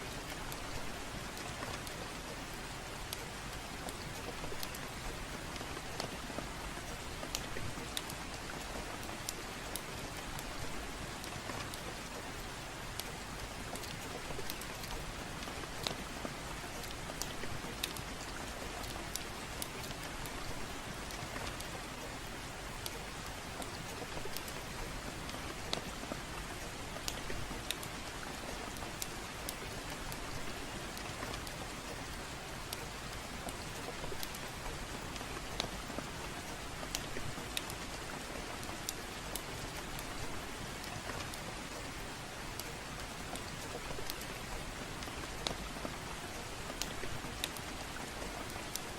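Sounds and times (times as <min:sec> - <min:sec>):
gentle rain: 0:00.0 - 0:48.9
wood fire crackling: 0:00.1 - 0:48.9.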